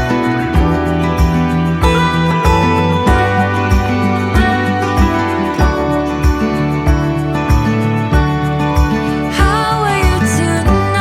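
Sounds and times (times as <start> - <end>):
low thumping beat: 0.0 - 9.6
instrumental music with sustained tones: 0.0 - 11.0.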